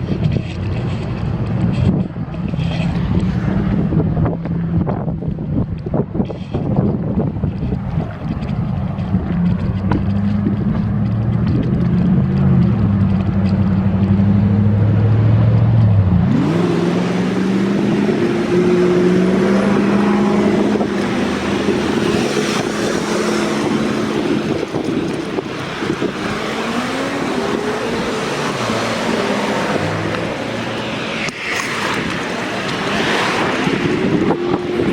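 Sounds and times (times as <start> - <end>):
engine hum: 0.0 - 34.9
tyre and road noise: 0.0 - 34.9
vehicles driving past: 0.0 - 34.9.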